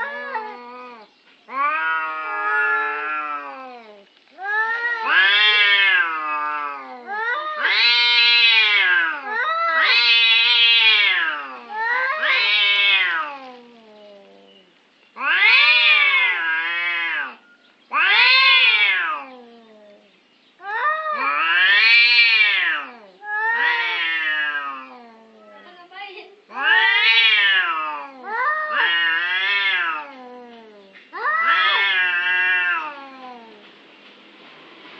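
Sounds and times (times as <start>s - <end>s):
cats yowling: 0.0s - 25.7s, 26.5s - 33.7s.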